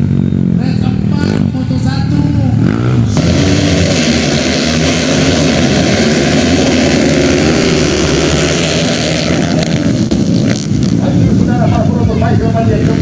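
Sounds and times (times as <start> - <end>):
motorcycle engines droning: 0.0 - 13.0.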